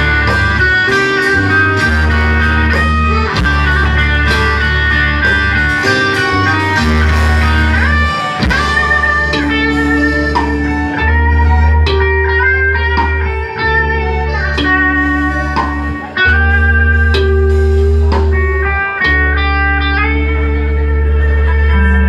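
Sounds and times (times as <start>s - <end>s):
electric guitar notes: 0.0s - 22.0s
long held bass notes: 0.0s - 22.0s.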